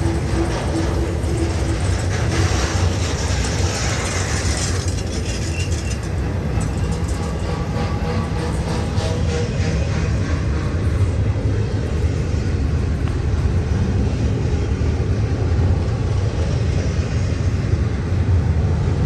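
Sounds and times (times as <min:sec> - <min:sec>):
wheels clicking over rails: 0:00.0 - 0:17.3
freight train rumbling past: 0:00.0 - 0:19.0.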